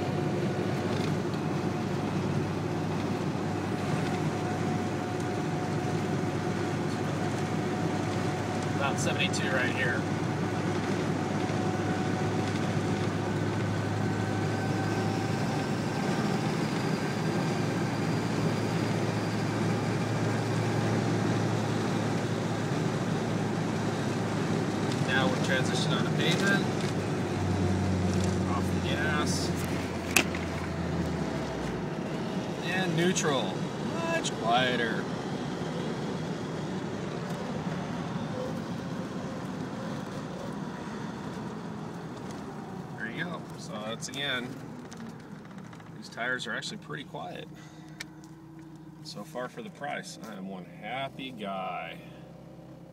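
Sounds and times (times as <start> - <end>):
tire roar on pavement: 0.0 - 52.9
tyre road noise inside car: 0.0 - 52.9.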